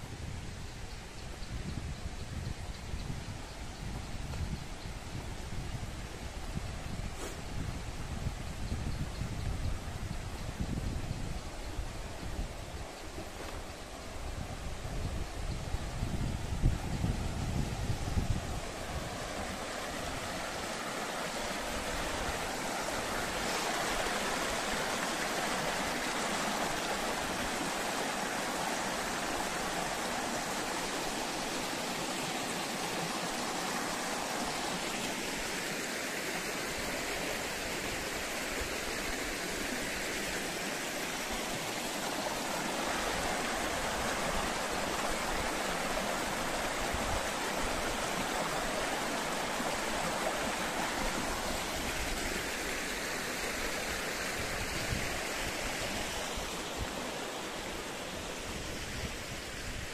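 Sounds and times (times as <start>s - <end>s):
stream rushing over rocks: 3.2s - 59.9s.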